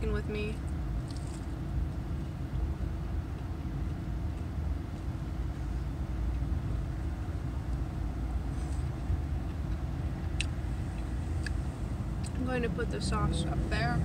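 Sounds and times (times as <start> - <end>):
car idling: 0.0 - 14.0.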